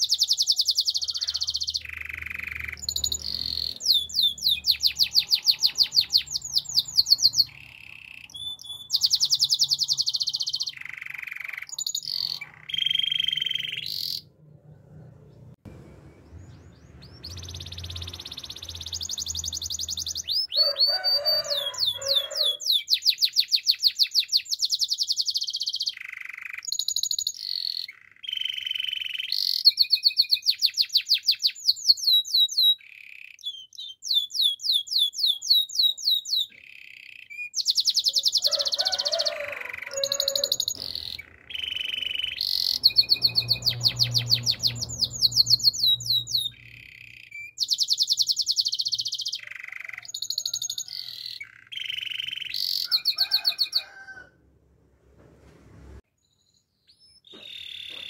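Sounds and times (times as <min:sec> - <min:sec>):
canary singing trills: 0:00.0 - 0:15.6, 0:16.3 - 0:54.2, 0:56.2 - 0:58.0.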